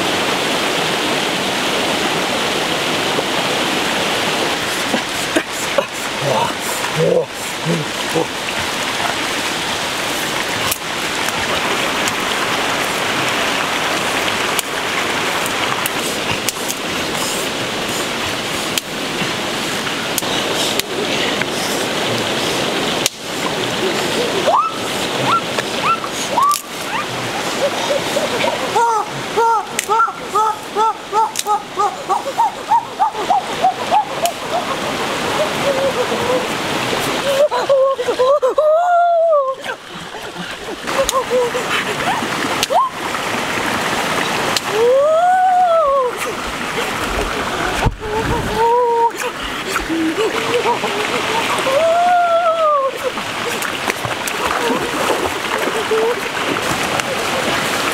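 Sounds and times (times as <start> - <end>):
flowing stream: 0.0 - 57.9.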